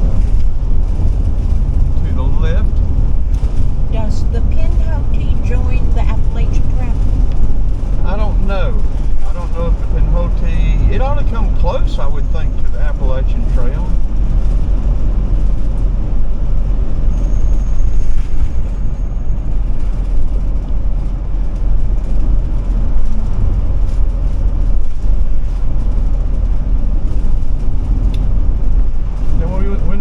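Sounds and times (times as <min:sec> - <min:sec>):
engine and road noise rumble: 0:00.0 - 0:30.0.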